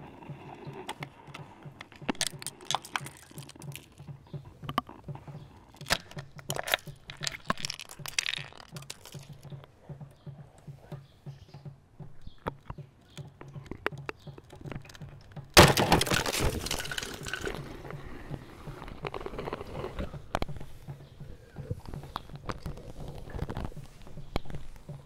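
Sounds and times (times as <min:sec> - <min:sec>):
sharp clicks and crackles: 0:00.1 - 0:10.6, 0:12.3 - 0:25.0.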